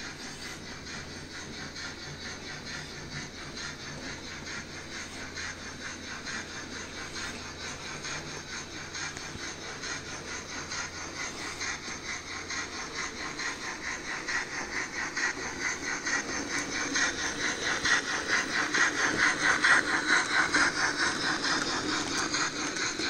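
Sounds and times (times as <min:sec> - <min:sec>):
model steam locomotive chuffing: 0:00.0 - 0:23.0.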